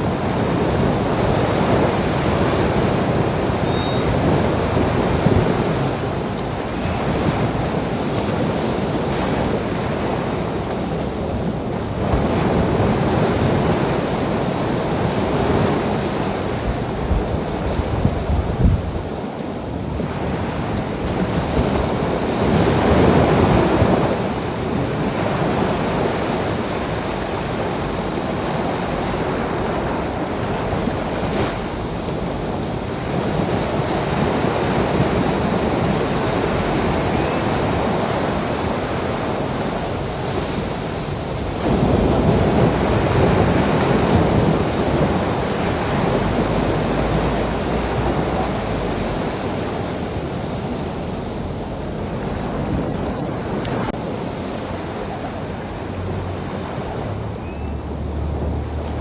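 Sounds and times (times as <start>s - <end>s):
ocean waves washing in: 0.0s - 59.0s
wave breaking: 0.0s - 59.0s
wind: 0.0s - 59.0s.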